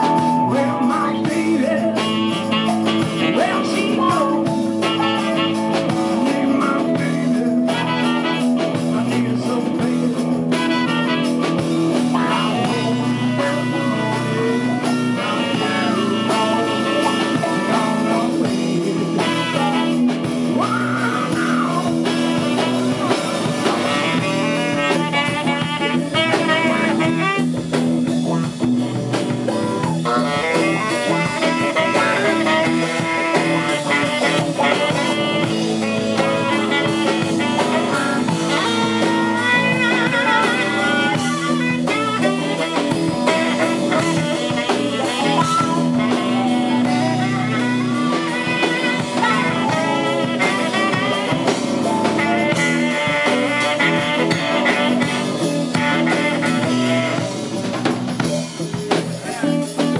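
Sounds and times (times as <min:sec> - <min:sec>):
blues band playing: 0:00.0 - 0:59.9
saxophone lead melody: 0:00.0 - 0:59.9.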